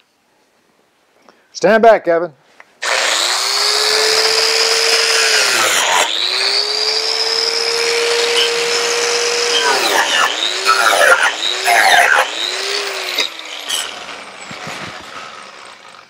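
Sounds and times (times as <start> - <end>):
angle grinder whining: 2.8 - 16.0.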